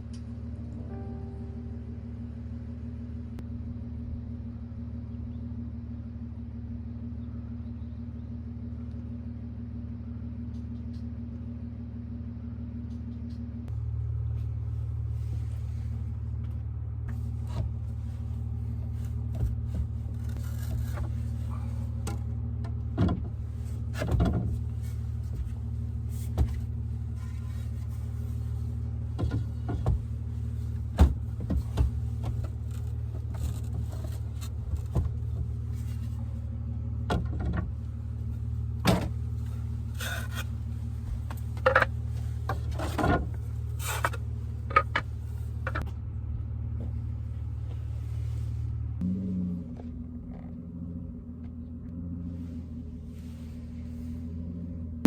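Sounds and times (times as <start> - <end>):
car interior hum: 0.0 - 55.0.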